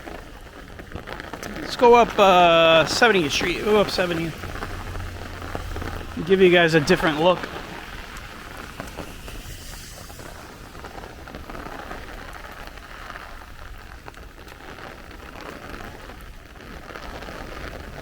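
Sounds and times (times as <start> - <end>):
patter of raindrops: 0.0 - 18.0
rain falling: 0.0 - 18.0.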